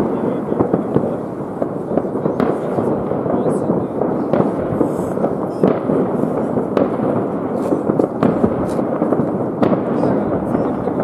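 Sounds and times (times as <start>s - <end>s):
firecracker bangs: 0.0s - 11.0s
fireworks crackling: 0.0s - 11.0s.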